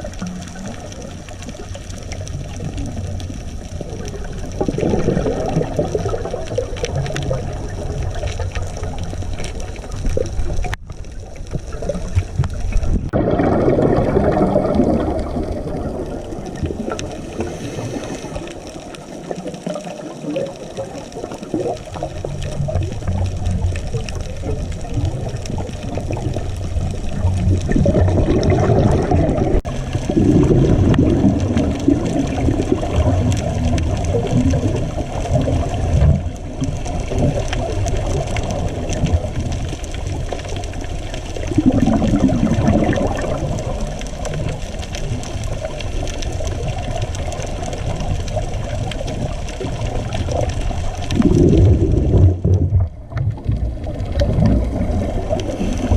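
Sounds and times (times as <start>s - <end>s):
low underwater rumble: 0.0s - 55.9s
underwater bubbling: 0.0s - 55.9s.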